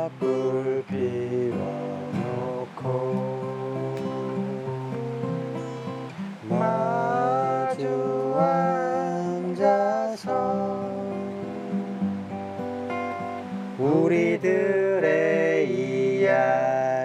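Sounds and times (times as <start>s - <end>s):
gently strummed acoustic guitar: 0.0s - 17.0s.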